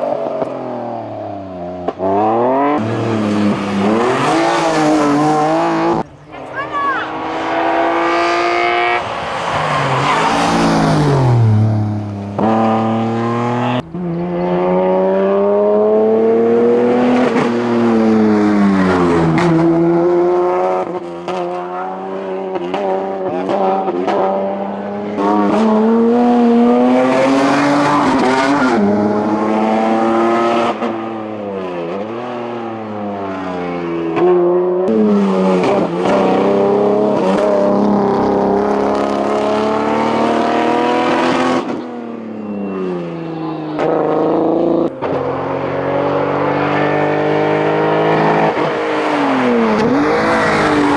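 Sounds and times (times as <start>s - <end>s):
race car engines at full throttle: 0.0s - 50.9s.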